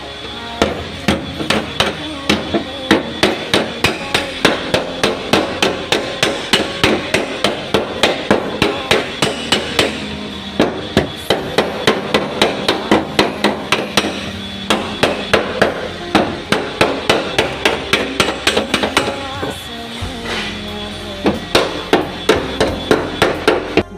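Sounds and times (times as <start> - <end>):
hammering on sheet metal: 0.6 - 19.6, 21.2 - 23.9.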